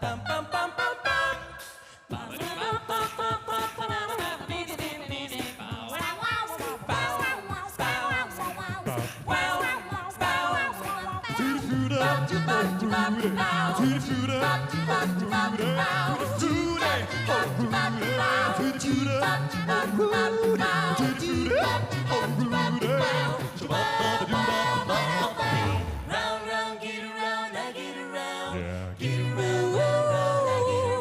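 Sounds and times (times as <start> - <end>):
pop music with voices singing: 0.0 - 31.0.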